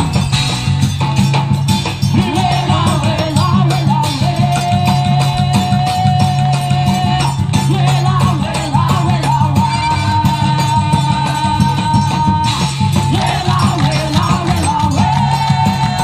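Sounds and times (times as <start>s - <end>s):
band music with steady bass: 0.0s - 16.0s.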